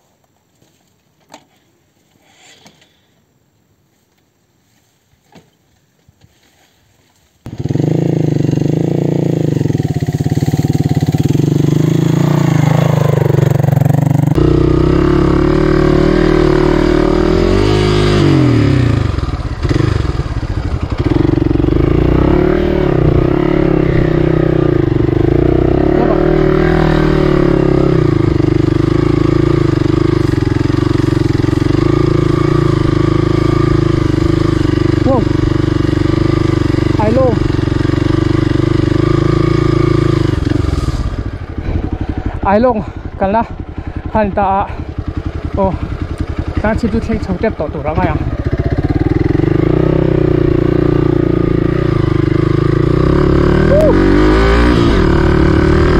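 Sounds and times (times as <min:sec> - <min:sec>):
motorcycle engine running: 0:07.5 - 0:55.9.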